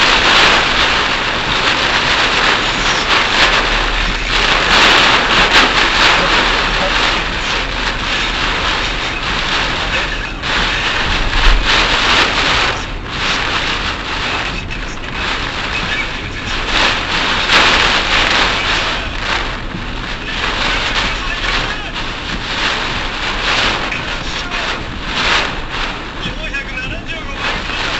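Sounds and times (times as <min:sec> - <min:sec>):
heavy rain and tyre spray hiss: 0:00.0 - 0:27.9.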